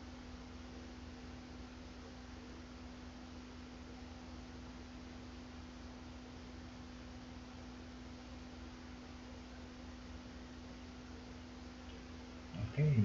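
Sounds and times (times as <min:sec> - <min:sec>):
background hiss: 0:00.0 - 0:13.0
faint low hum: 0:00.0 - 0:13.0.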